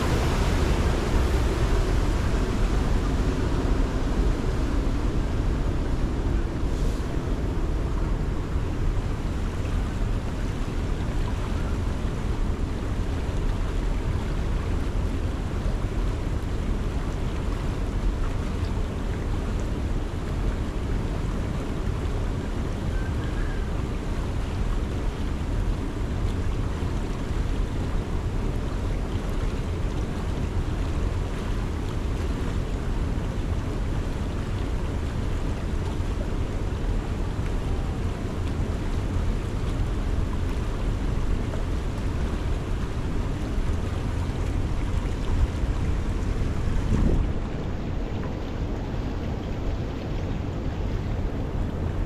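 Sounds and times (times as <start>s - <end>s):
flowing river water: 0.0s - 52.0s
wind rumbling on microphone: 0.0s - 52.0s.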